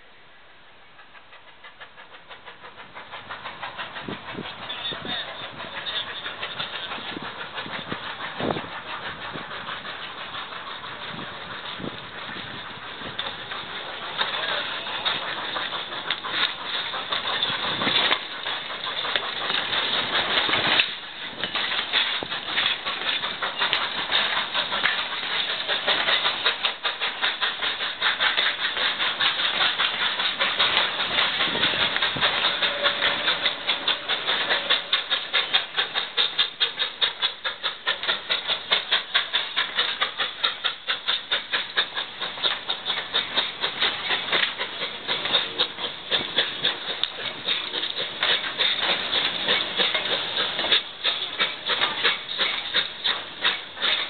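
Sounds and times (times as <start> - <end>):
steady train noise: 0.0 - 54.0
train coaches clicking past: 0.0 - 54.0.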